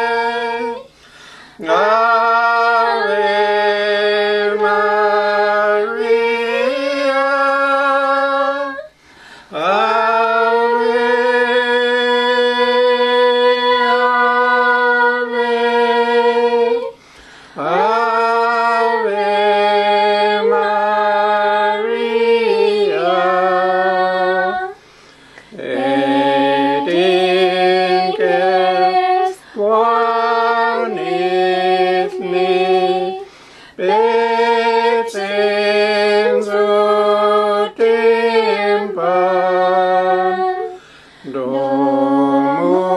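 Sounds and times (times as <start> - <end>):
person singing a hymn unaccompanied: 0.0 - 42.9.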